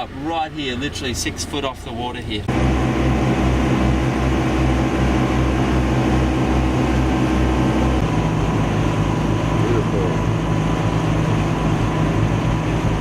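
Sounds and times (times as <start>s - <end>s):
motor engine throbbing: 2.4s - 13.0s.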